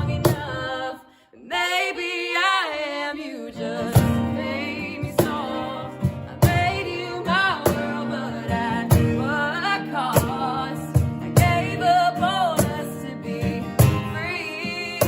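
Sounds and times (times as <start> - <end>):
woman singing folk song: 0.0 - 15.0.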